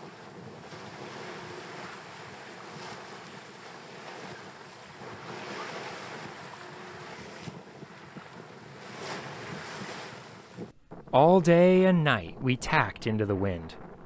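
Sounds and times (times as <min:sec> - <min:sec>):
wind and waves rushing: 0:00.0 - 0:14.0
wind buffeting microphone: 0:00.0 - 0:14.0.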